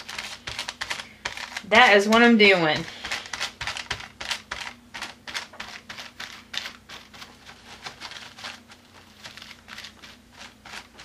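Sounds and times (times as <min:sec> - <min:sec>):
paintbrush scrubbing on paper: 0:00.0 - 0:11.0.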